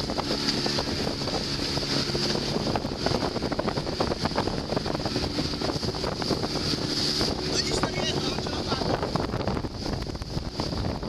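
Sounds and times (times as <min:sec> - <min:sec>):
water slapping against hull: 0:00.0 - 0:11.0
wind buffeting microphone: 0:00.0 - 0:11.0.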